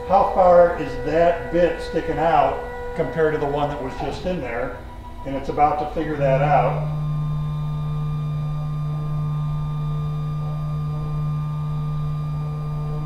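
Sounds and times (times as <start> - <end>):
motor drive whining: 0.0 - 13.0.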